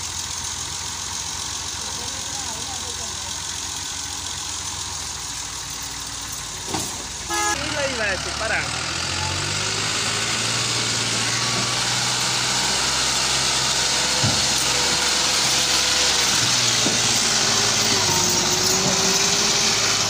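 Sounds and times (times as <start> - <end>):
tractor diesel engine running hard: 0.0 - 20.0.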